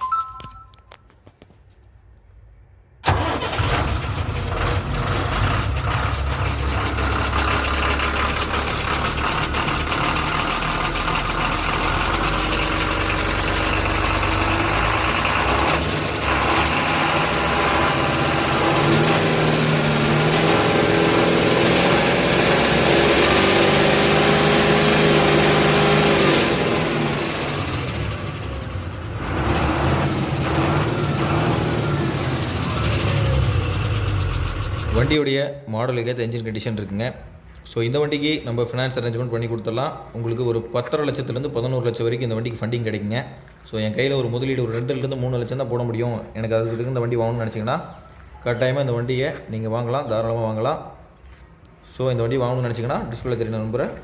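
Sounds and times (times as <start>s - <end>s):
diesel lorry engine starting and revving: 2.9s - 35.4s, 38.2s - 54.0s.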